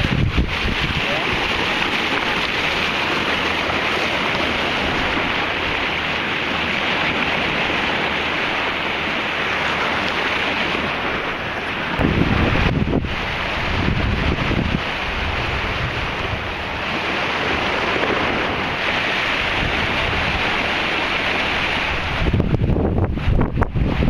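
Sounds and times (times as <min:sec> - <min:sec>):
sea water rushing: 0:00.0 - 0:24.0
wind buffeting microphone: 0:00.0 - 0:24.0.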